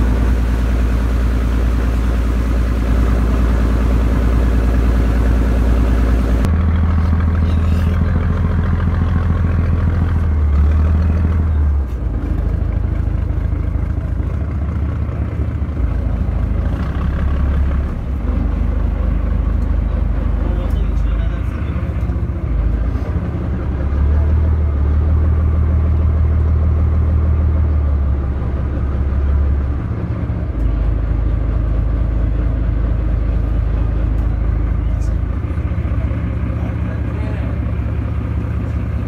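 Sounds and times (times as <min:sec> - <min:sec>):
boat engine drone: 0:00.0 - 0:39.0.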